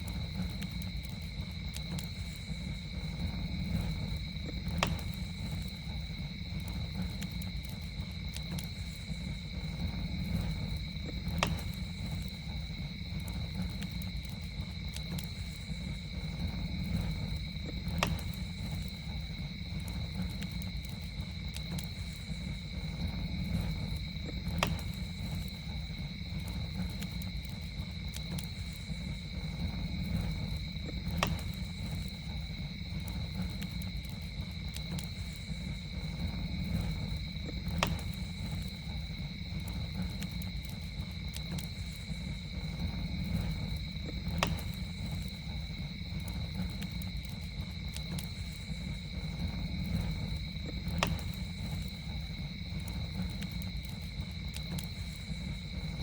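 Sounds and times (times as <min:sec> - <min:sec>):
campfire burning: 0:00.0 - 0:56.0
night insects droning: 0:00.0 - 0:56.0
wood pops and crackles: 0:00.0 - 0:56.0.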